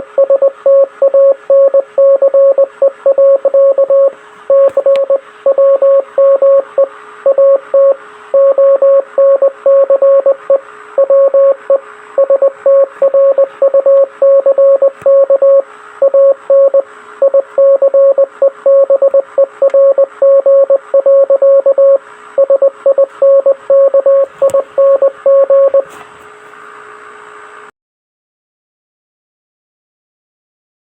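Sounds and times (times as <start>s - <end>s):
morse code beeping: 0.2s - 25.9s.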